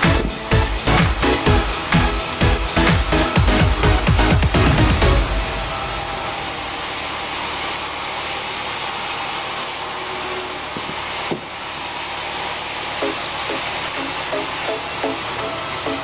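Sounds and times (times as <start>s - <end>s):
band saw running: 0.0s - 16.0s.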